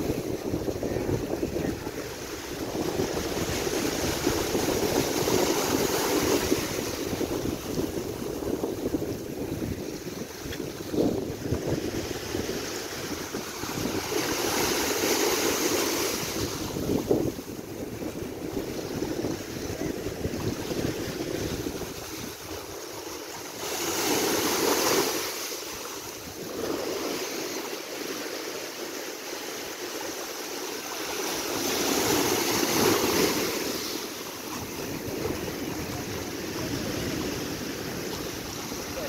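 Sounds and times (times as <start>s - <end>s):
waves washing against rocks: 0.0s - 39.0s.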